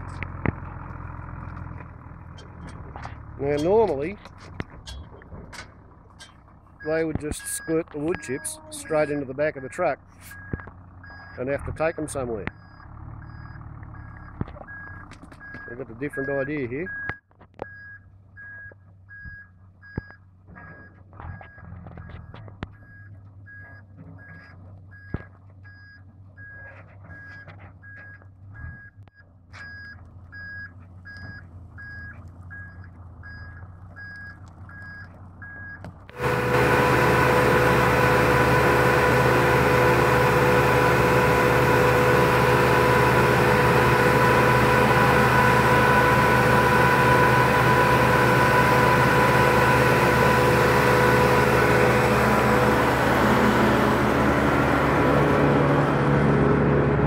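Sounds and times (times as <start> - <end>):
woodchipper diesel engine running: 0.0 - 17.1, 19.8 - 57.0
low engine hum: 0.0 - 57.0
reversing alarm beeping: 6.8 - 29.0, 29.6 - 53.6.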